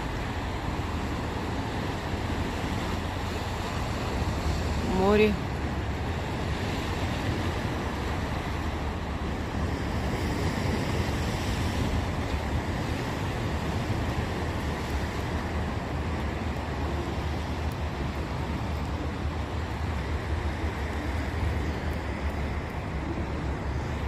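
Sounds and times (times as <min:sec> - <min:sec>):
surf washing against concrete: 0:00.0 - 0:24.0
wind rumble on microphone: 0:00.0 - 0:24.0.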